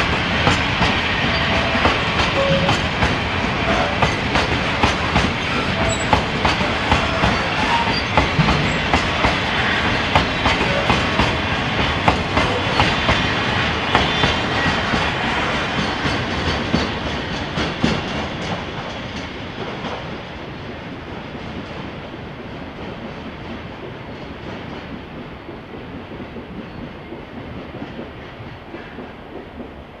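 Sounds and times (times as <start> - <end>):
freight train wheels clickety-clack: 0.0 - 30.0.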